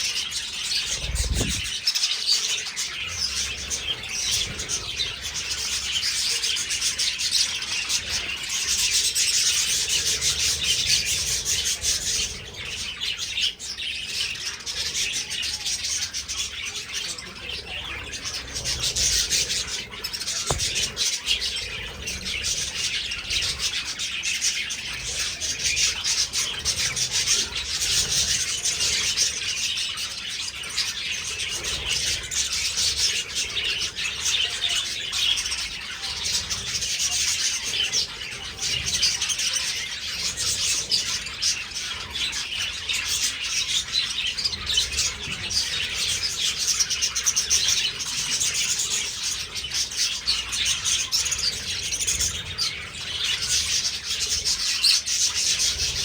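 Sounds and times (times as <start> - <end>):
flock of budgerigars chirping: 0.0 - 56.0.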